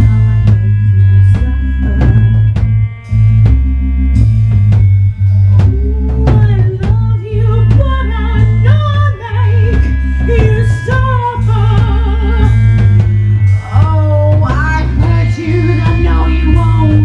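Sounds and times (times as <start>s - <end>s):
singer with vibrato: 0.0s - 2.5s, 5.4s - 17.0s
drums: 0.0s - 17.0s
guitar: 0.0s - 17.0s
heavy bass line: 0.0s - 17.0s.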